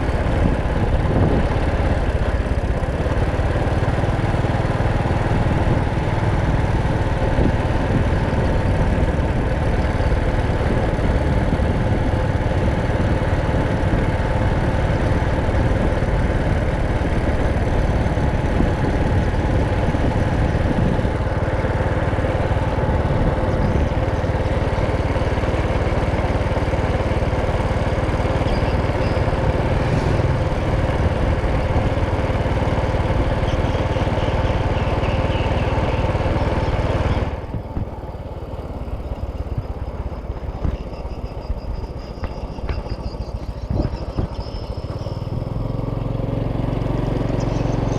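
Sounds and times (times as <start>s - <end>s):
motorcycle engine running: 0.0s - 47.9s
wind and road noise: 0.0s - 47.9s.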